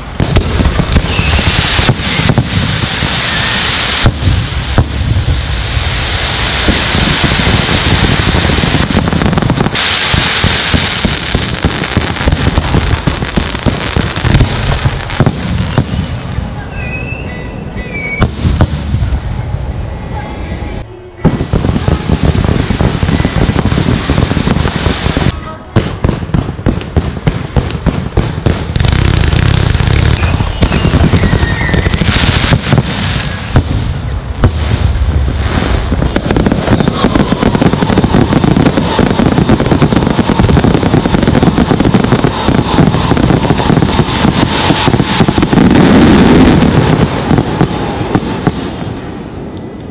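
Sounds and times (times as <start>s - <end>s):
fireworks bangs and crackling: 0.0s - 17.3s, 17.9s - 19.7s, 21.2s - 49.9s.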